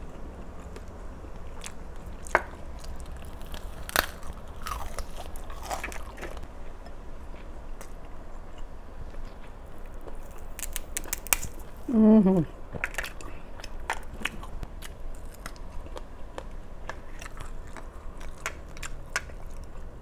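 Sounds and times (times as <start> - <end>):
crunchy biting and chewing: 0.0 - 6.5, 7.3 - 11.9, 12.8 - 20.0.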